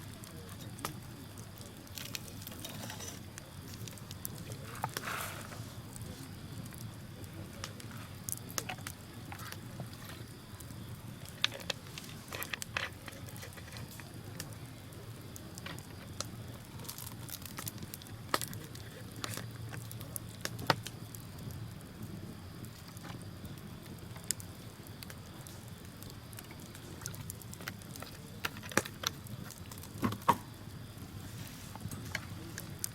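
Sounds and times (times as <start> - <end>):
bonfire crackling and popping: 0.0 - 32.9.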